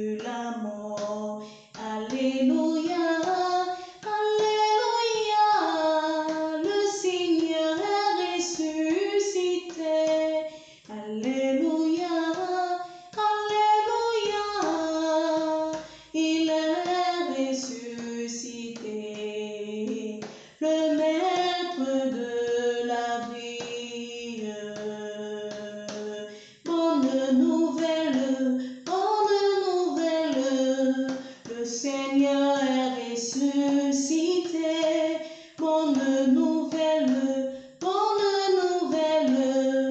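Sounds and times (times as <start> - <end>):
woman singing a hymn: 0.0 - 39.9.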